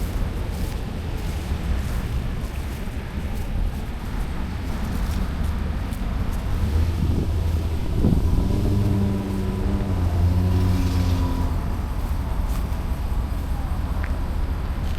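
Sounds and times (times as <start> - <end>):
road traffic hum: 0.0 - 14.9
vehicle engine droning: 0.0 - 14.9
wind rumbling on microphone: 0.0 - 14.9.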